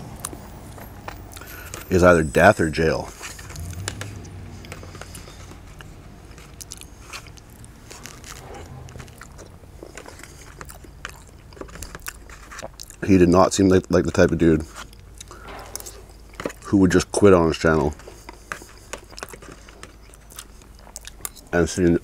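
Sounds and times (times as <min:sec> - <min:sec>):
chewing: 0:00.2 - 0:02.0, 0:03.1 - 0:13.1, 0:14.1 - 0:16.7, 0:17.9 - 0:21.6.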